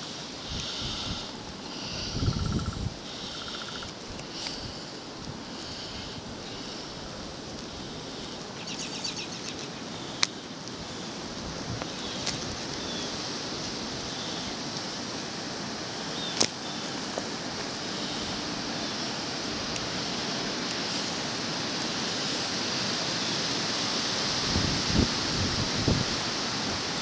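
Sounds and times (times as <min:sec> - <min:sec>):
wind hissing in snowstorm: 0:00.0 - 0:27.0.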